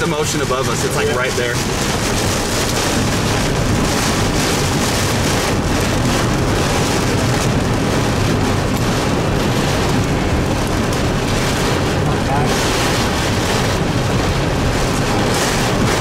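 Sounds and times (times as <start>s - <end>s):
heavy rain beating on vehicle: 0.0s - 16.0s.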